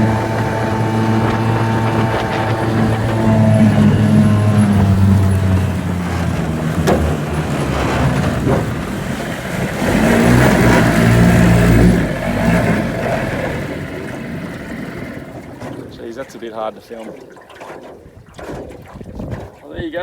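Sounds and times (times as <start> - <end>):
outboard motor running hard: 0.0 - 19.8.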